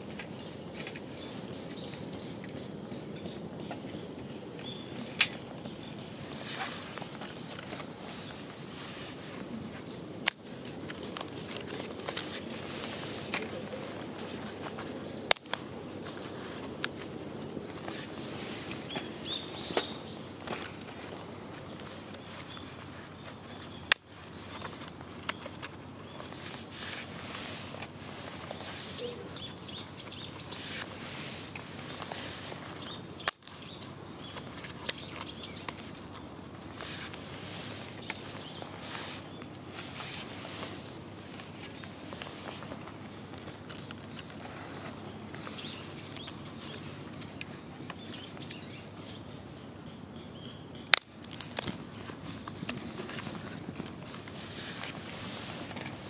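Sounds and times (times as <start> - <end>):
small wood fire crackling: 0.0 - 56.0.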